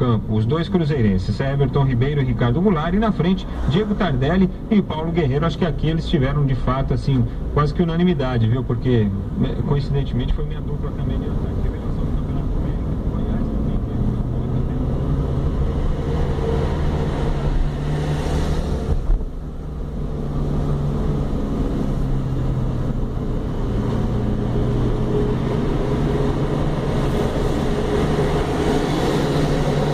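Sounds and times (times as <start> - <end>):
car engine and tyre hum: 0.0 - 29.9.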